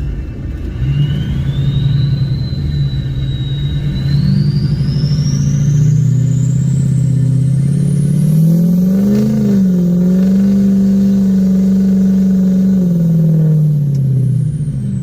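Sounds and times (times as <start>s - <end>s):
diesel truck engine driving: 0.0s - 15.0s
high whistle rising in pitch: 0.7s - 15.0s.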